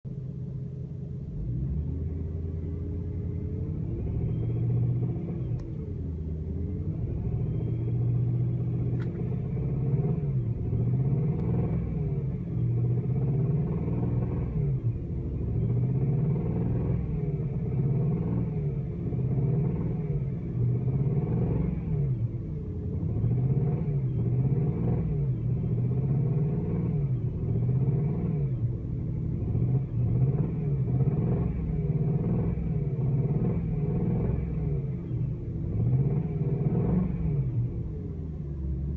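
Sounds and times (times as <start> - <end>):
car engine revving: 0.4 - 38.9.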